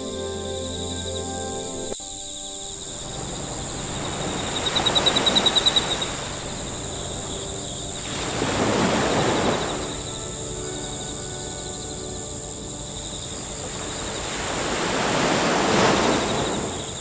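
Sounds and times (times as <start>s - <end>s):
insects trilling: 0.0s - 17.0s
rushing noise: 2.7s - 17.0s.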